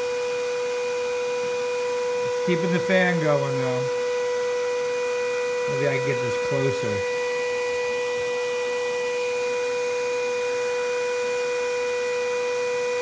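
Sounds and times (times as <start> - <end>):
high-pitched electrical hum: 0.0 - 13.0.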